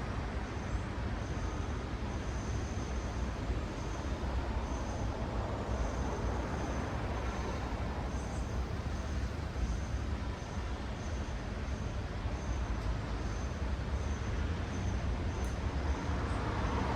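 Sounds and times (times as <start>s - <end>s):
road traffic rumble: 0.1s - 16.9s.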